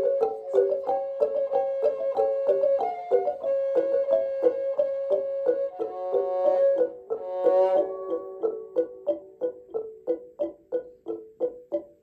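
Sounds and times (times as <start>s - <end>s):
tuned percussion melody: 0.0s - 12.0s.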